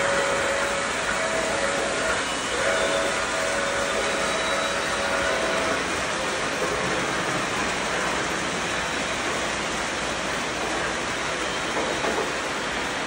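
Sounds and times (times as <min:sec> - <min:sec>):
model train wheels rumbling: 0:00.0 - 0:13.0.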